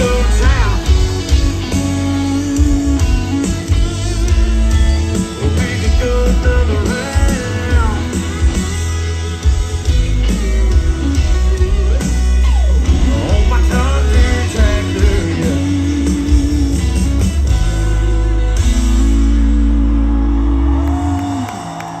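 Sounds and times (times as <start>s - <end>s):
country-rock band playing: 0.0s - 22.0s
electric guitar lines: 0.0s - 22.0s
heavy bass: 0.0s - 22.0s.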